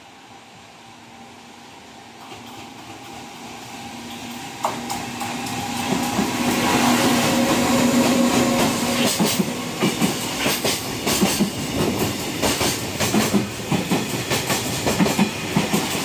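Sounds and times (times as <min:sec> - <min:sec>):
electric freight train passing: 0:00.0 - 0:16.0.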